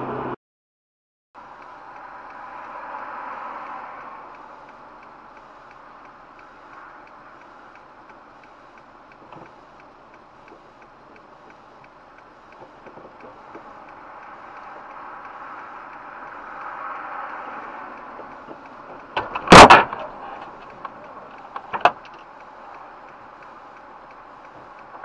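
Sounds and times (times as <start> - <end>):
mechanical ticking: 1.4 - 25.0
steady hiss: 1.4 - 25.0.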